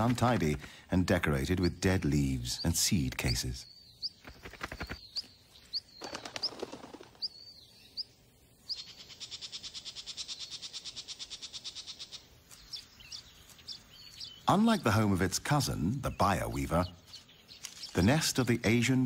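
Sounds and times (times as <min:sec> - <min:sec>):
small bird chirping: 0:01.3 - 0:18.4.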